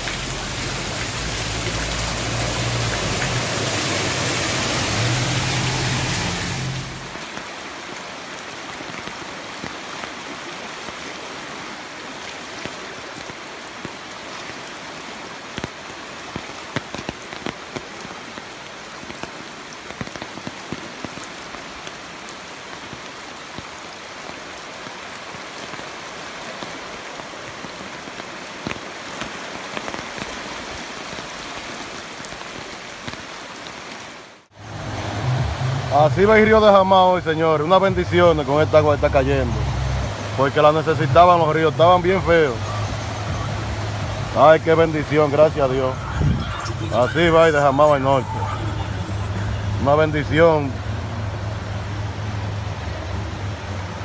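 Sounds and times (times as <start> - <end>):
raindrops tapping close by: 0.0 - 7.6, 8.6 - 11.1, 12.4 - 46.2
rain falling: 0.0 - 54.0.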